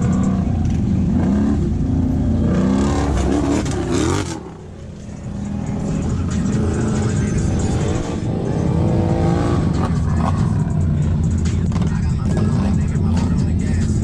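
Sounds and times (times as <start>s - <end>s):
off-road vehicle engines revving: 0.0s - 14.0s.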